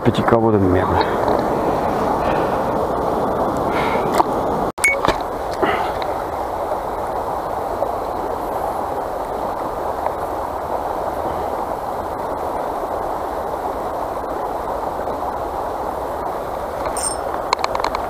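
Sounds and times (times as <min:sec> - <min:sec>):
river water rushing: 0:00.7 - 0:18.0.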